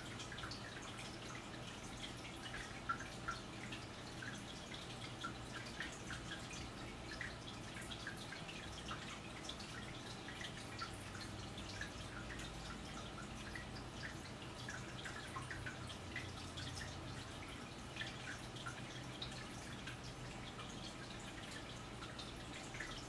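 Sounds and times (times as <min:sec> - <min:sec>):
faint small ticks and plinks: 0:00.0 - 0:23.0
low steady hum: 0:00.0 - 0:23.0.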